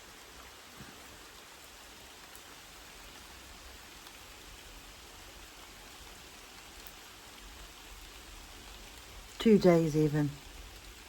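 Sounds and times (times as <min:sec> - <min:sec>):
light rain hissing: 0:00.0 - 0:11.0.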